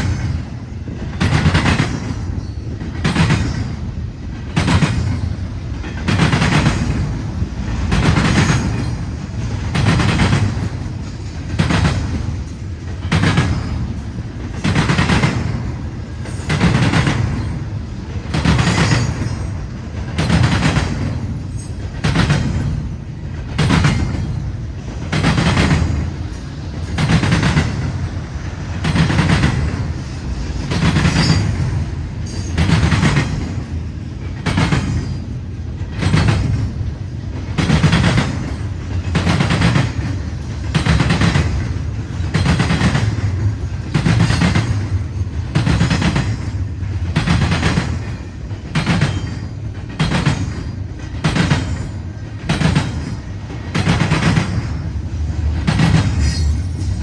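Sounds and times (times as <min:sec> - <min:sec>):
low rumble of rolling train: 0:00.0 - 0:57.0
train wheels clacking on rail joints: 0:00.0 - 0:57.0.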